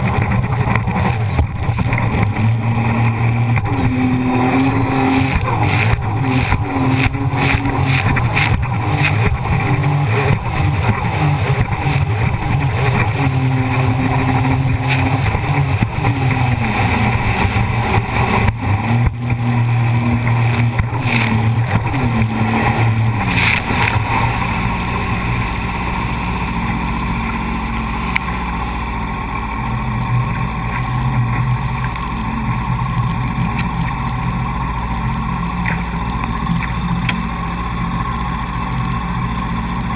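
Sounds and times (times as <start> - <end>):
jet ski engine revving: 0.0 - 39.9
knocks and buffeting: 0.0 - 39.9.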